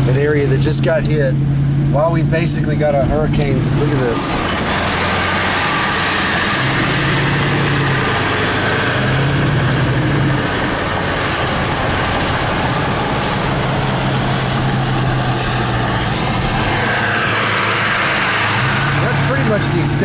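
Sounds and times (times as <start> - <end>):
low engine hum: 0.0 - 20.0
road and tyre noise: 0.0 - 20.0.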